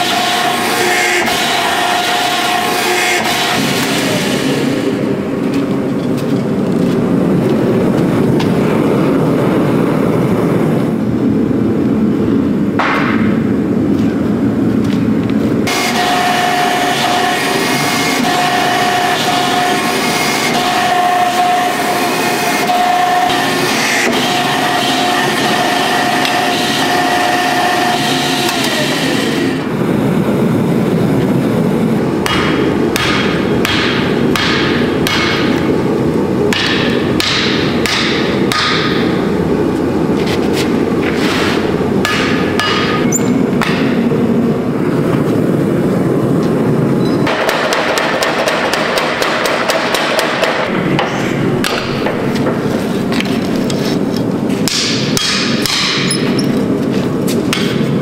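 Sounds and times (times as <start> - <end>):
hydraulic press whine: 0.0 - 14.8, 15.4 - 47.5, 48.2 - 58.0
steady mechanical drone: 0.0 - 58.0.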